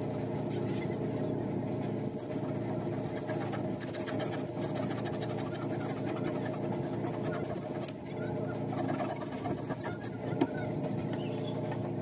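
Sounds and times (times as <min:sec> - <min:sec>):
rapid scratching noise: 0:00.0 - 0:11.0
motor drone: 0:00.0 - 0:12.0.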